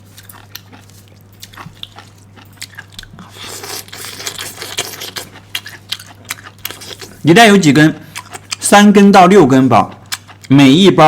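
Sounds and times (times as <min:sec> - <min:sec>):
crunchy chewing: 0:00.0 - 0:08.7, 0:09.5 - 0:10.8.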